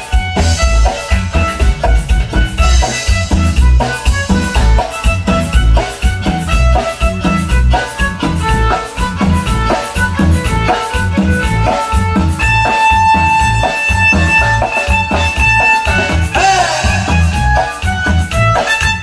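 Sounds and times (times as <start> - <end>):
lead instrument high note: 0.0 - 17.9
dance music with steady beat: 0.0 - 19.0.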